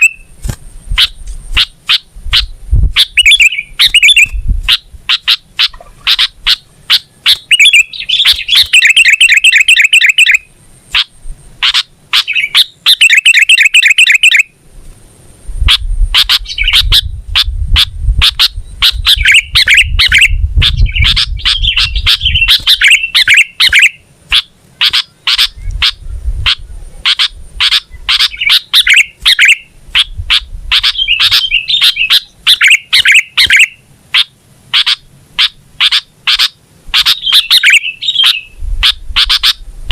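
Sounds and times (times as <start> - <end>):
bird singing chattering trills: 0.0 - 14.6, 15.6 - 39.6.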